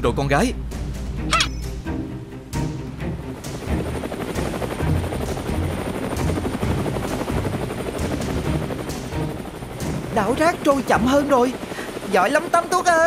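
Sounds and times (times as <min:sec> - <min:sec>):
drone propellers whirring: 0:00.9 - 0:12.8.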